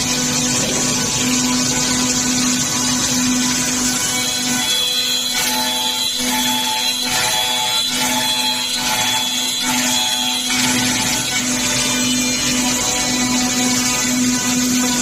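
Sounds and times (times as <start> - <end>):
cutters hissing and whining in wood: 0.0 - 15.0.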